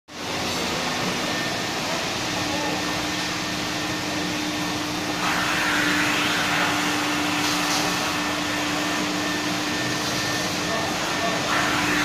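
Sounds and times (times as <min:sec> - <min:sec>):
vacuum cleaner motor hum: 0:00.1 - 0:12.0.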